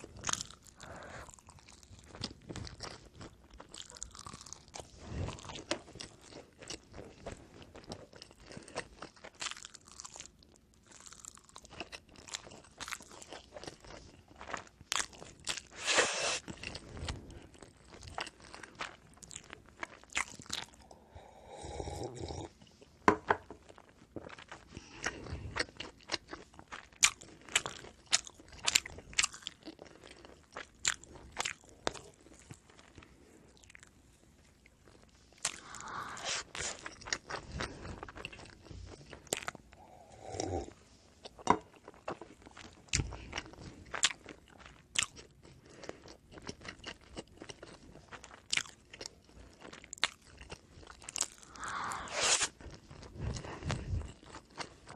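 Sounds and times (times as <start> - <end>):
crunchy bites and chewing: 0.0 - 20.9, 23.6 - 33.9, 34.8 - 54.9.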